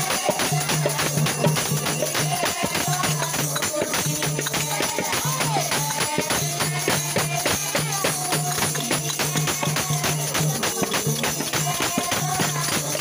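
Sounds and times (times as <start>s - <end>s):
jingling hand percussion: 0.0s - 13.0s
woman singing through microphone: 0.0s - 13.0s.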